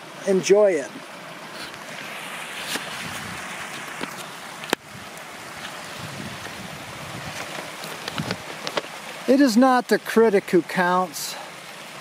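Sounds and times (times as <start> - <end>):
creek running over rocks: 0.0 - 12.0.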